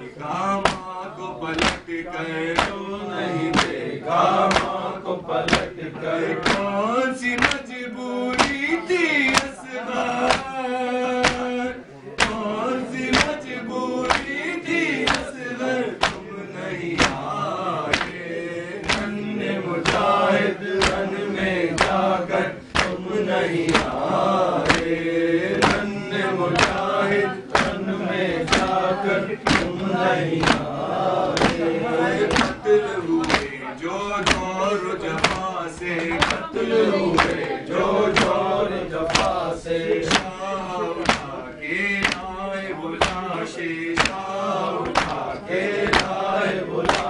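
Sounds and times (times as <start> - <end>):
men chanting a lament: 0.0 - 47.0
rhythmic chest-beating: 0.0 - 47.0.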